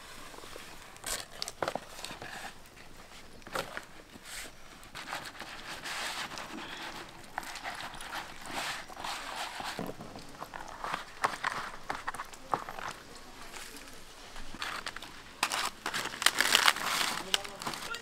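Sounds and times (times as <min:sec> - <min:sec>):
banana leaf rustling: 0:00.0 - 0:18.0.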